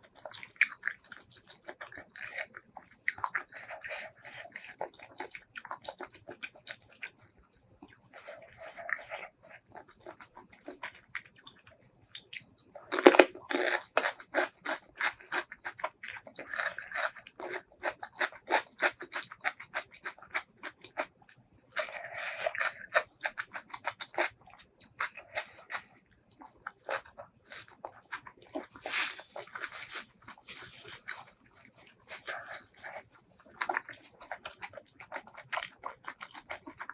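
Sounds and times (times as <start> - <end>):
chewing and crunching food: 0.0 - 36.9.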